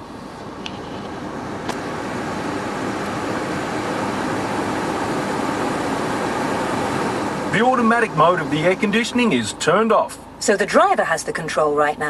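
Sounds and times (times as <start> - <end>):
car blower fan rushing: 0.0 - 11.0.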